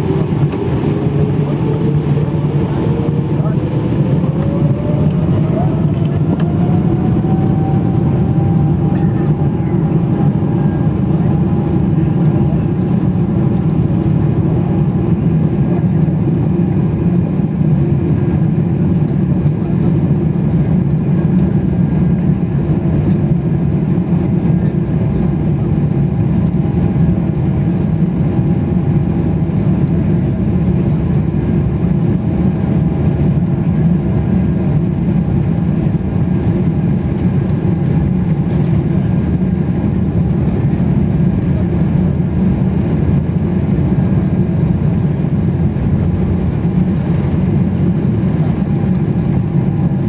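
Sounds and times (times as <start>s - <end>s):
aircraft cabin low rumble: 0.0s - 50.0s
faint engine whine: 0.0s - 50.0s.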